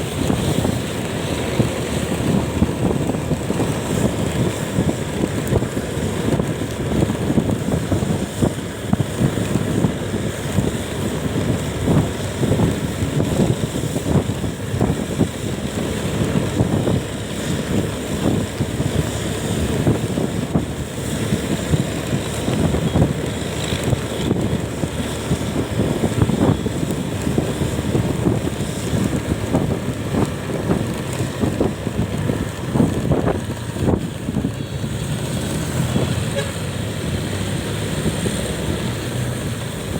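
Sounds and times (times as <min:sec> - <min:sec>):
road and vehicle noise: 0:00.0 - 0:39.9
wind buffeting microphone: 0:00.0 - 0:39.9.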